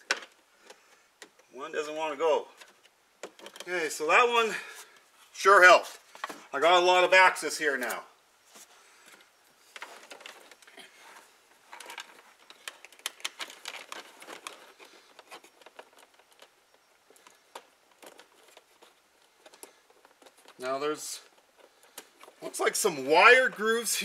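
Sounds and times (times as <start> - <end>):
faint rustling of cable: 0.0 - 24.0.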